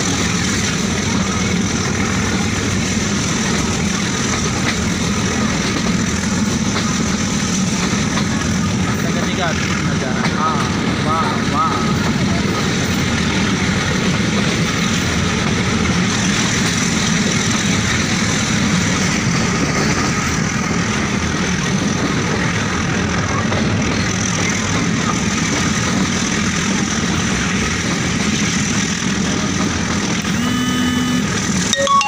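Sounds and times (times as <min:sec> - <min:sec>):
train rumbling on board: 0:00.0 - 0:32.0.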